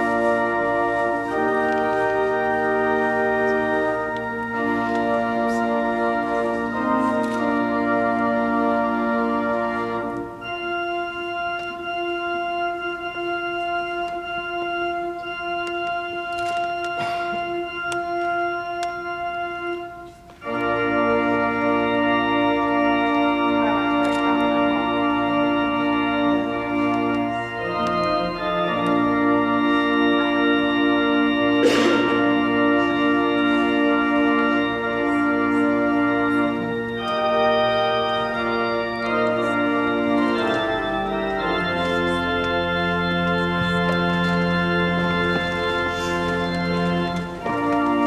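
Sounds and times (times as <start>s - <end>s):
organ playing slow chords: 0.0s - 48.0s.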